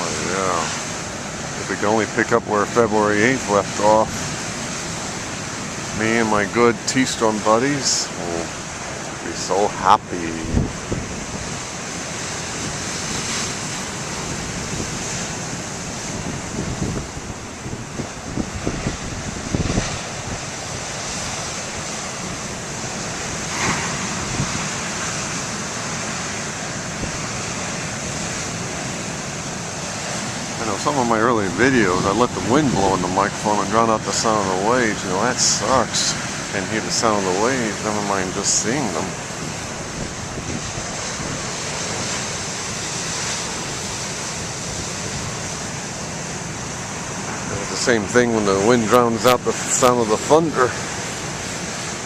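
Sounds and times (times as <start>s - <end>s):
ocean waves breaking: 0.0s - 52.0s.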